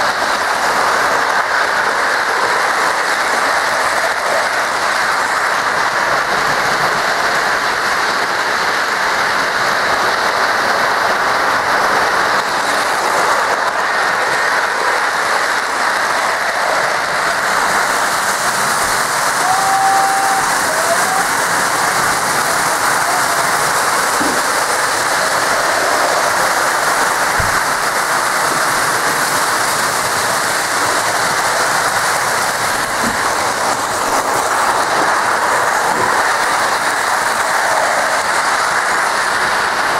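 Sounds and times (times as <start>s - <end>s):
model train wheels rumbling: 0.0s - 39.9s.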